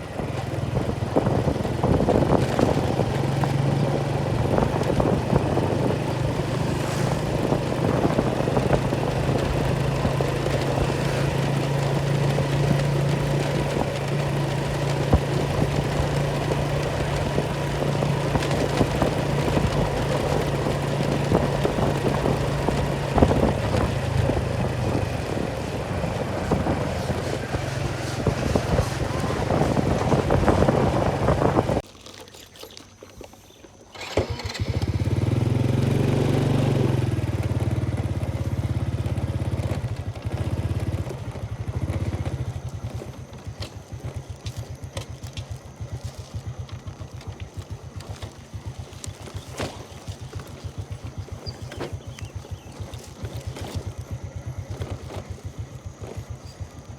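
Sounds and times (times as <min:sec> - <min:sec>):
small engine running: 0:00.0 - 0:31.8, 0:32.9 - 0:56.9.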